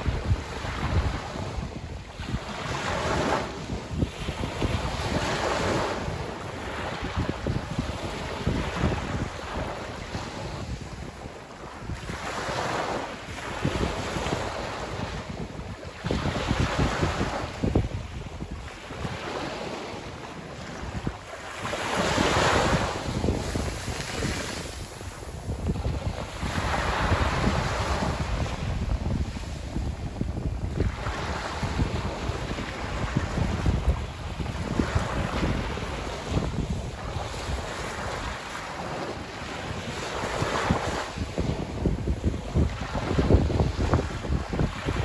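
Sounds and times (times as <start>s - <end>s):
waves on a pebble beach: 0.0s - 45.0s
wind buffeting microphone: 0.0s - 45.0s.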